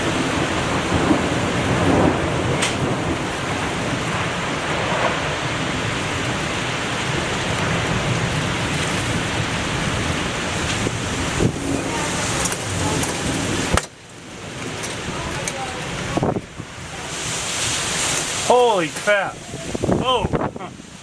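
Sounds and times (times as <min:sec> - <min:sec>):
rain: 0:00.0 - 0:21.0
storm wind gusting: 0:00.0 - 0:21.0
wind buffeting microphone: 0:00.0 - 0:21.0.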